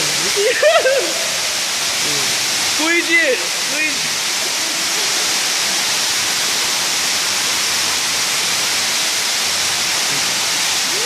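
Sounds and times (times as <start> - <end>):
water gushing onto floor: 0.0 - 11.0.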